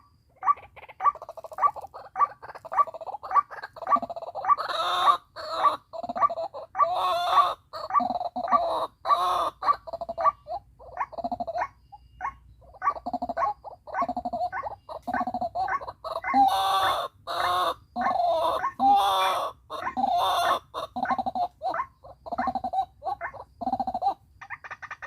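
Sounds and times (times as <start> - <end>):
waterhen croaking calls: 0.0 - 25.0.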